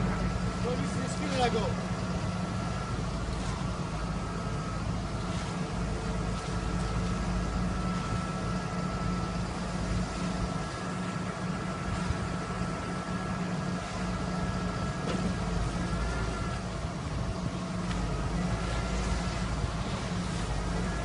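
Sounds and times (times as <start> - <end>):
thin steady whine: 0.0 - 21.0
truck engine running: 0.0 - 21.0.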